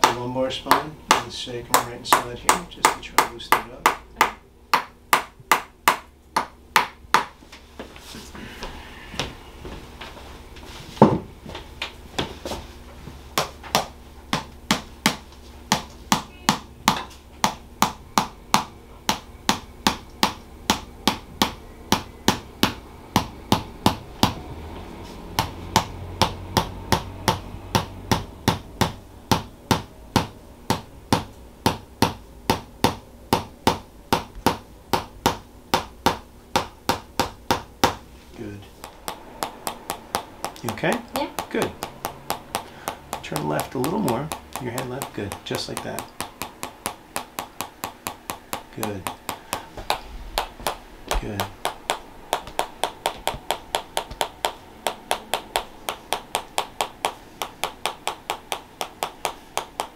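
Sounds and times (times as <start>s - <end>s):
massage hammer tapping wedge: 0.0s - 7.4s, 13.4s - 59.9s.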